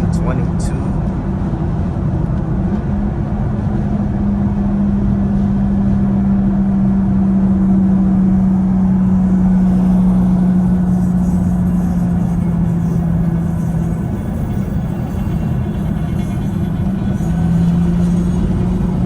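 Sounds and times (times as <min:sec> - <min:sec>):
car engine droning at cruise: 0:00.0 - 0:19.0
road and tyre rumble: 0:00.0 - 0:19.0.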